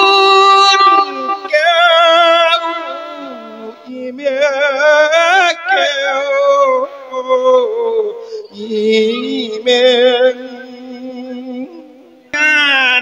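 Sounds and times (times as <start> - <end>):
monk singing into a microphone: 0.0 - 13.0.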